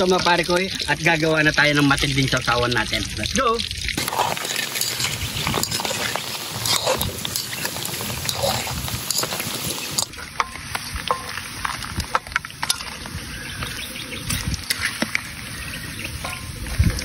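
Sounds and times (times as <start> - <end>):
eggs deep-frying in oil: 0.0 - 17.0.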